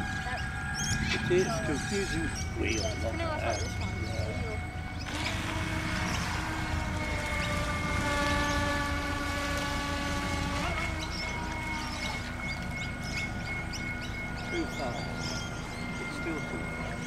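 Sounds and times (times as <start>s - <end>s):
model boat motor droning: 0.0s - 17.0s.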